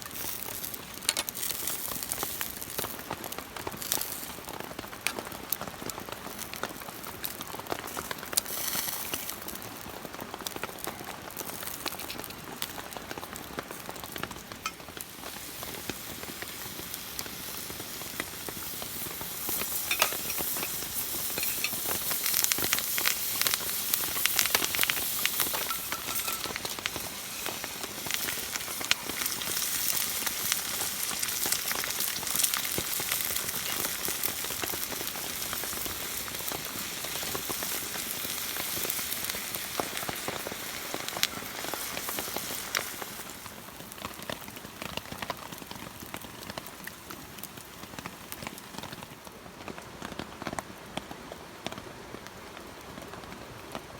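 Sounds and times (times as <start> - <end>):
food sizzling in a skillet: 0.0 - 46.2.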